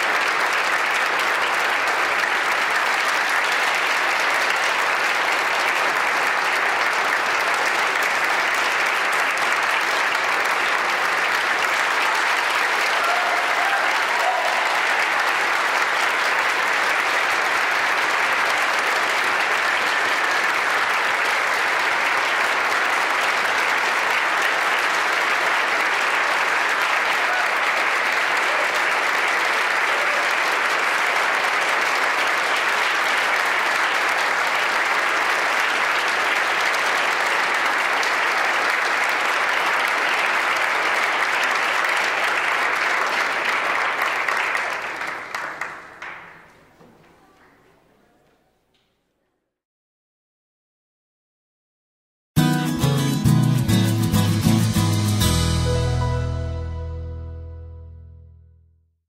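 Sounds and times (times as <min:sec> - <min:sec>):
audience applause: 0:00.0 - 0:47.6.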